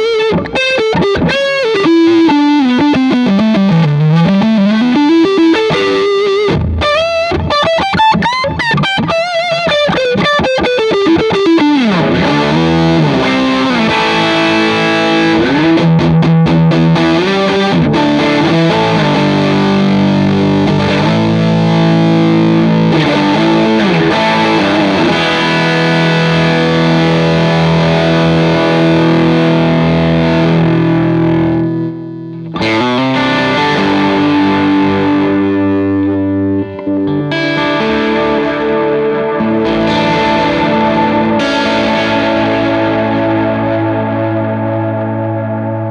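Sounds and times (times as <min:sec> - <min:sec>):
overdriven electric guitar lead: 0:00.0 - 0:45.9.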